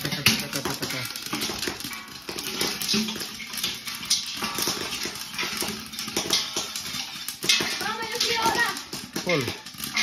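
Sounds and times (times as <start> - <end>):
corn kernels popping: 0.0 - 10.0.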